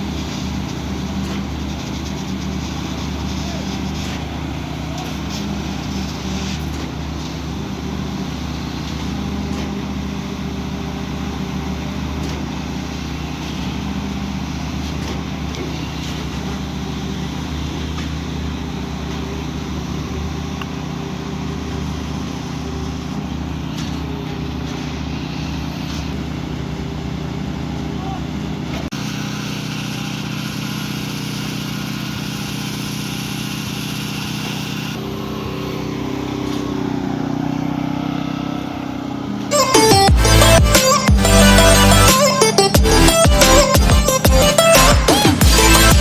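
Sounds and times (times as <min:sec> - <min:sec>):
diesel truck engine running: 0:00.0 - 0:46.0.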